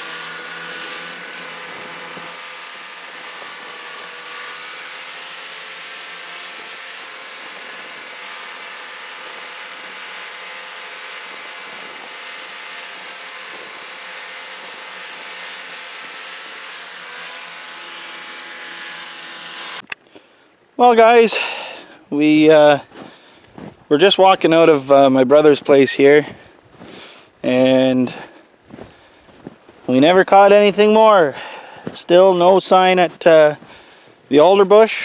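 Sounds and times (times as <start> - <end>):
snowmobile engine running: 0.0 - 19.9, 20.8 - 35.0.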